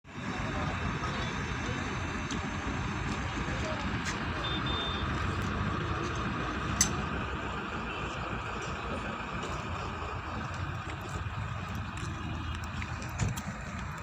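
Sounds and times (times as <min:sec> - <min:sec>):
roadside vehicle noise: 0:00.0 - 0:14.0.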